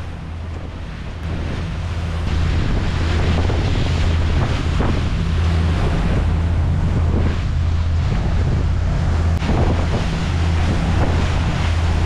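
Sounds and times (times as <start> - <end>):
diesel engine drone: 0.0 - 12.0
water rushing along hull: 0.0 - 12.0
wind buffeting microphone: 0.0 - 12.0.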